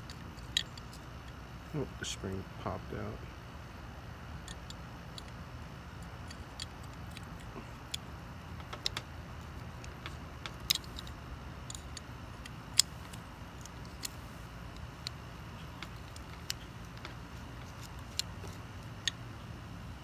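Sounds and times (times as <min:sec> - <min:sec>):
small metallic clicks: 0:00.0 - 0:01.4, 0:04.4 - 0:19.4.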